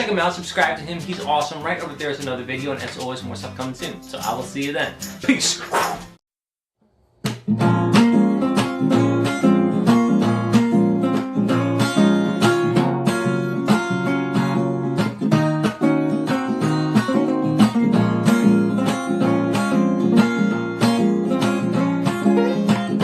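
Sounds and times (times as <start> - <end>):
acoustic guitar music: 0.0 - 6.2, 7.2 - 23.0.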